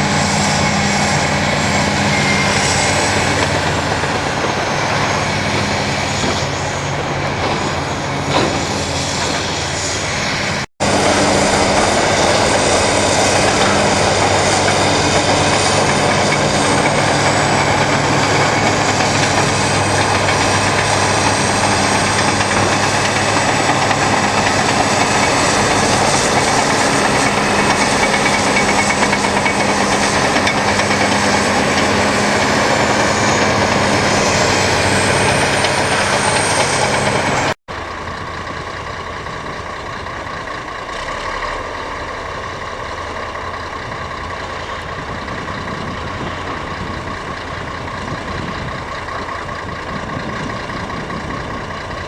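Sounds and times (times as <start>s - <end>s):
bulldozer diesel engine running: 0.0s - 52.0s
high mechanical whine: 0.0s - 52.0s.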